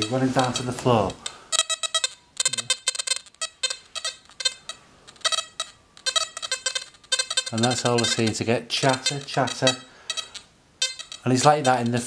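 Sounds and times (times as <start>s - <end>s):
metal detector beeping: 0.0s - 12.0s.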